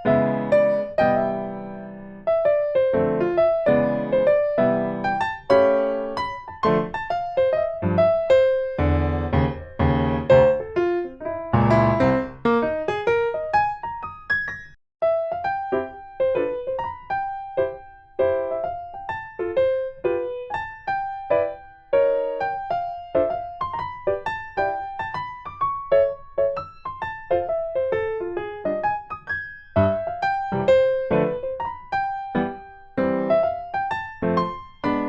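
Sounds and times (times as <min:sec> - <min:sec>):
gentle keyboard melody: 0:00.0 - 0:35.0.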